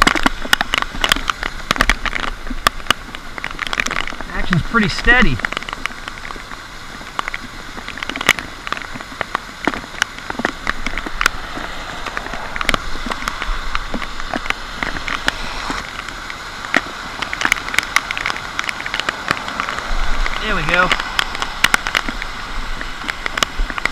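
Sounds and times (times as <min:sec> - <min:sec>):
rain falling: 0:00.0 - 0:23.9
sharp drops ticking: 0:00.0 - 0:23.9.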